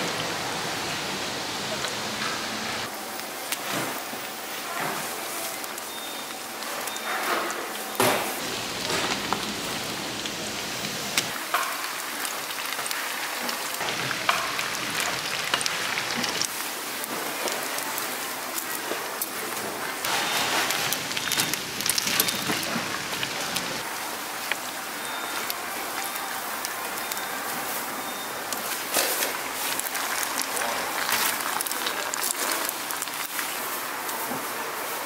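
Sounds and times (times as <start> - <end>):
food deep-frying in oil: 0.8 - 34.5.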